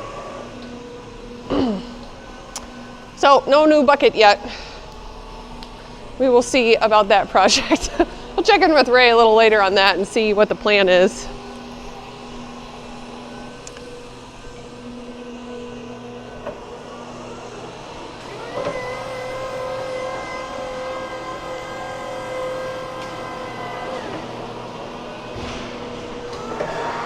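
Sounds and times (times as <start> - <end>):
motor-driven machine running: 0.0 - 27.0.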